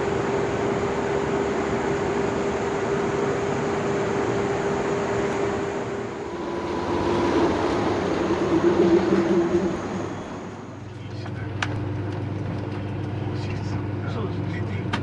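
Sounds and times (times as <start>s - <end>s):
train motor whine: 0.0s - 13.5s
train rumble on rails: 0.0s - 15.0s.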